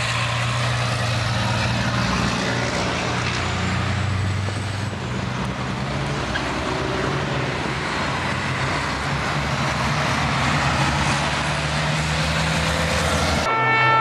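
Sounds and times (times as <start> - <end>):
trucks passing at speed: 0.0 - 14.0.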